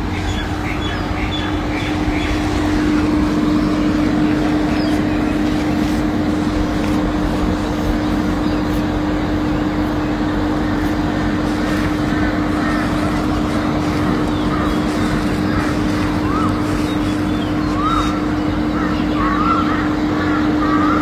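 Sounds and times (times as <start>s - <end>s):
constant rushing noise: 0.0s - 21.0s
steady motor hum: 0.0s - 21.0s.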